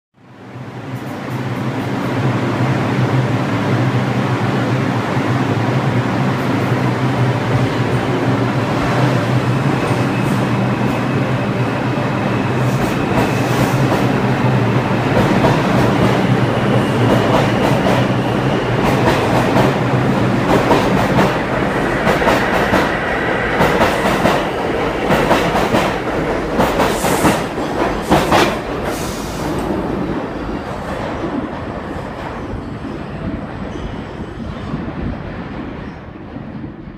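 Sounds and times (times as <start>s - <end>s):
subway train hum: 0.2s - 36.9s.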